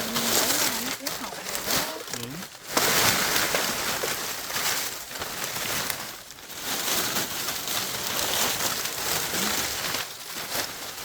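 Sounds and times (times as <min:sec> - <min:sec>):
leaves rustling when handled: 0:00.0 - 0:11.0.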